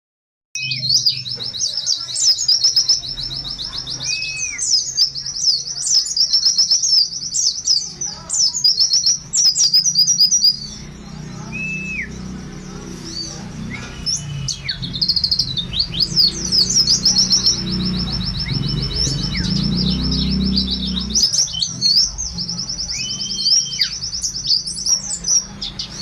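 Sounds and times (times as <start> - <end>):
bird twittering song: 0.6 - 26.0.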